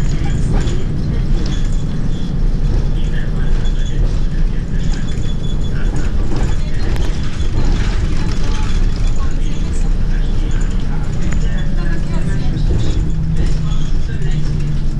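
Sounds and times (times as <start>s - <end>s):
bus engine and road rumble: 0.0s - 14.9s.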